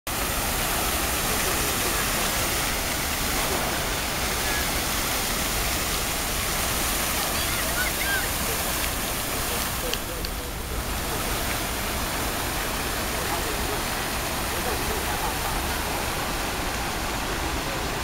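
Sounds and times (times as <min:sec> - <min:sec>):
fountain water splashing: 0:00.1 - 0:18.0.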